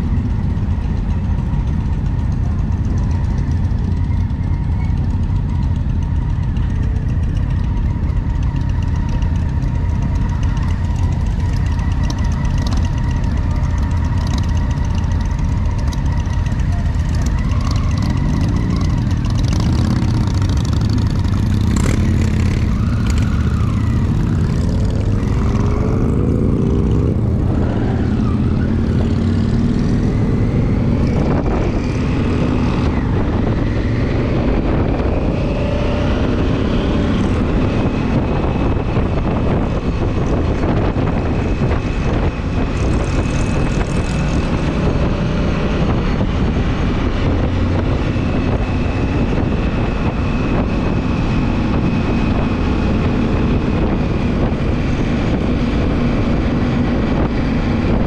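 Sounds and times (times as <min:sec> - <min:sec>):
motorcycle engine: 0:00.0 - 0:58.0
wind noise: 0:00.0 - 0:58.0.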